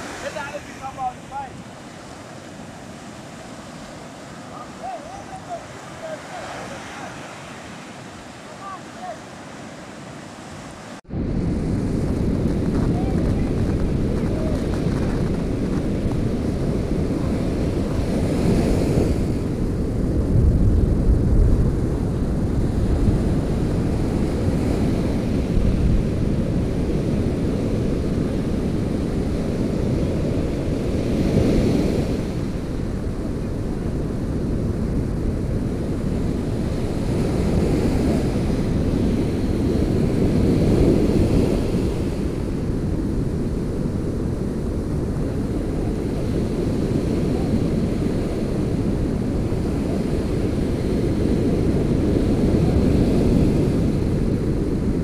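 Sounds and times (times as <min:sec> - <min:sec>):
surf breaking on a beach: 0:00.0 - 0:55.0
wind buffeting microphone: 0:00.0 - 0:55.0.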